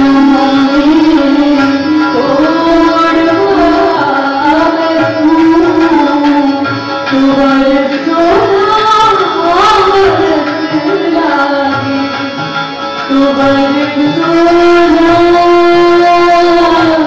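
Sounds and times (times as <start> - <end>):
instrumental accompaniment: 0.0 - 17.0
tabla drumming: 0.0 - 17.0
woman singing: 0.0 - 17.0.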